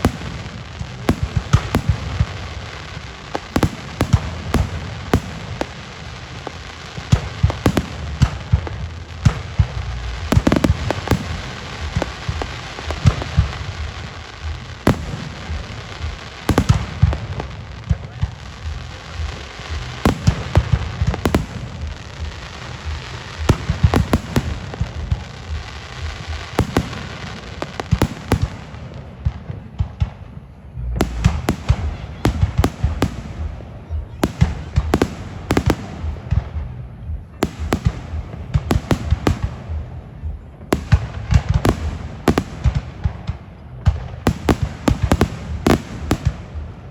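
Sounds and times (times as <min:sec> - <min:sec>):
fireworks bangs: 0:00.0 - 0:46.9
fireworks crackle: 0:00.0 - 0:46.9.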